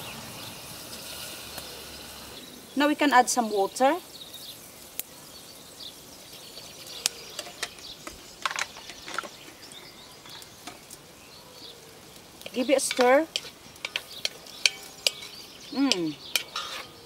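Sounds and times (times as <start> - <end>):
bird chirps: 1.6 - 17.0.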